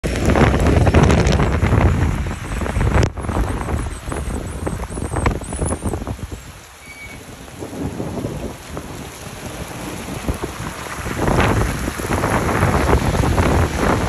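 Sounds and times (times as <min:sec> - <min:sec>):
cars hissing on wet road: 0:00.0 - 0:14.0
heavy rain: 0:00.0 - 0:14.0
raindrops tapping close by: 0:00.0 - 0:14.0
wind rumbling on microphone: 0:00.0 - 0:14.0.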